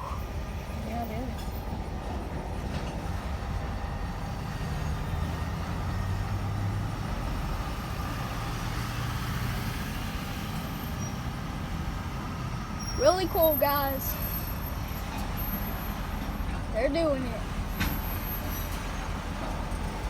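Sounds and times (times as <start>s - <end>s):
steel wheels rumbling on rails: 0.0s - 20.0s.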